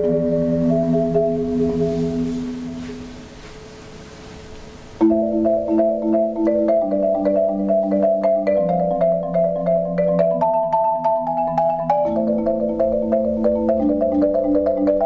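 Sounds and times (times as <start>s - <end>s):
marimba played with mallets: 0.0s - 15.0s.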